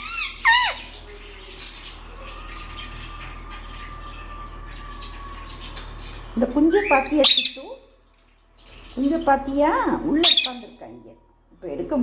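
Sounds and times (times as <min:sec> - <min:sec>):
pet birds chirping faintly: 0:00.0 - 0:12.0.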